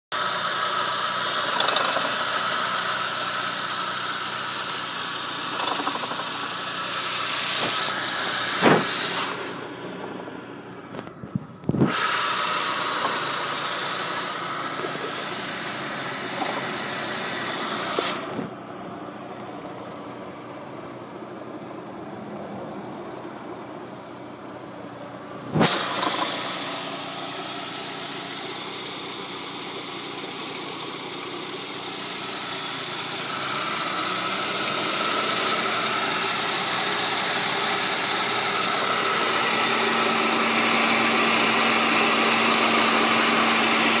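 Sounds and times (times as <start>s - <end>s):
car engine idling: 0.1s - 44.0s
rattle from engine bay: 0.2s - 9.6s, 10.9s - 18.6s, 25.3s - 44.0s.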